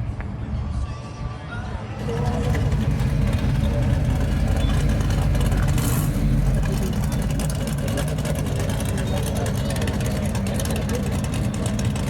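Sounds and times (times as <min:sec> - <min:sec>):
car engine low rumble: 0:01.9 - 0:12.0.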